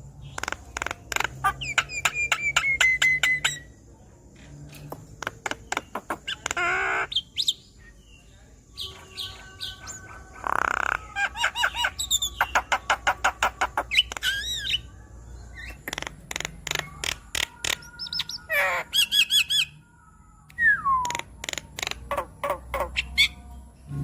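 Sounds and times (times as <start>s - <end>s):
bird singing with clicks and whistles: 0.2s - 3.7s, 4.7s - 7.7s, 8.7s - 19.8s, 20.4s - 23.9s.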